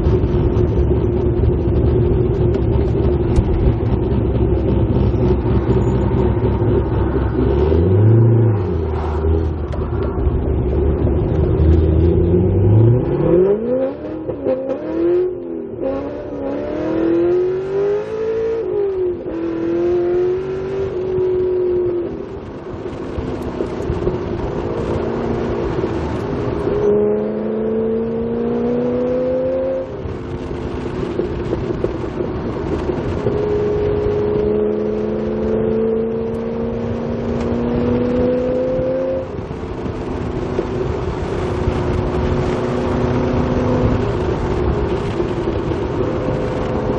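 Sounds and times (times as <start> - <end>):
car engine revving while driving: 0.0 - 46.9.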